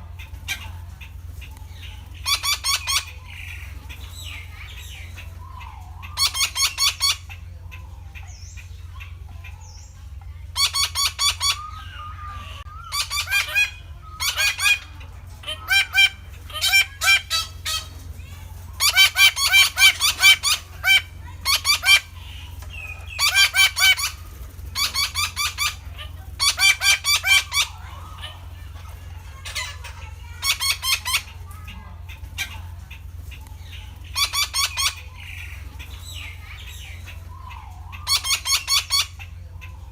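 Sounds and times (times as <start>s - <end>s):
steady low hum: 0.0s - 39.9s
parakeet calling: 0.1s - 39.9s.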